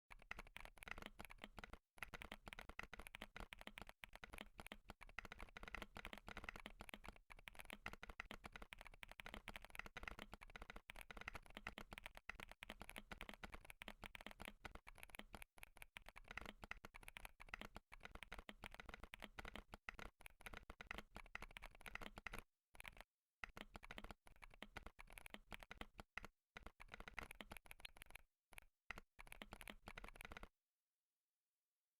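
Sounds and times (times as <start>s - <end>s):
fast keyboard typing: 0.1s - 30.5s.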